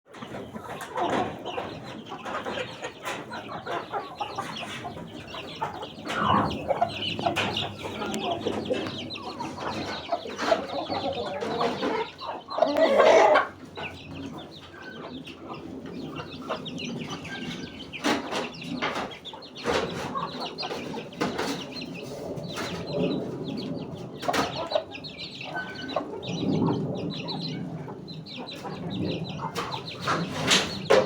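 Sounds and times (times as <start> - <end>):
chickens clucking: 0.1 - 31.0.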